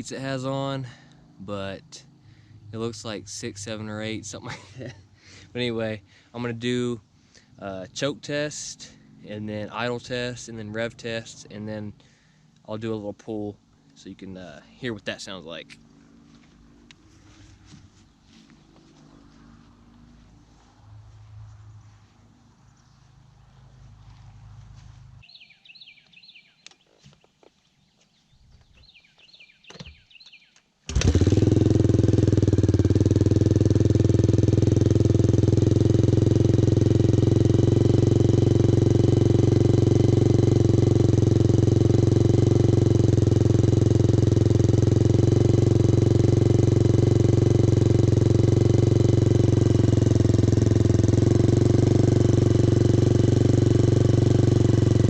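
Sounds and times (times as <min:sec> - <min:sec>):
motorcycle engine starting and idling: 0:00.0 - 0:25.3, 0:30.9 - 0:55.0.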